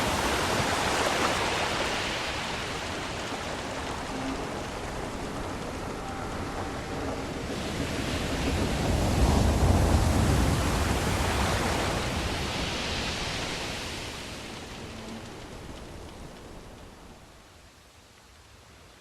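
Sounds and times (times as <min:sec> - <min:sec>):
sea waves washing against hull: 0:00.0 - 0:17.4.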